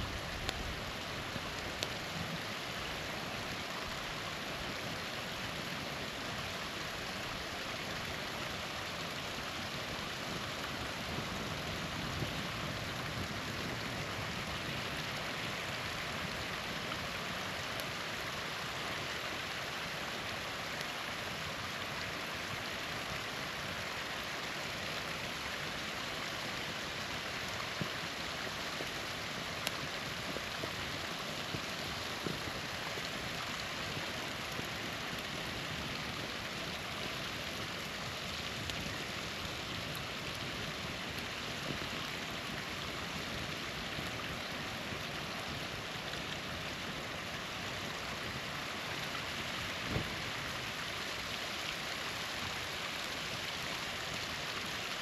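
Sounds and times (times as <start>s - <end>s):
campfire crackling: 0.0s - 55.0s
small waterfall rushing: 0.0s - 55.0s.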